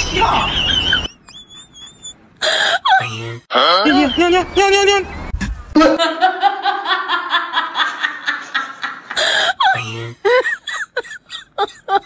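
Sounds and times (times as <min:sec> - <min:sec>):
person laughing: 0:00.3 - 0:04.4, 0:05.8 - 0:12.0.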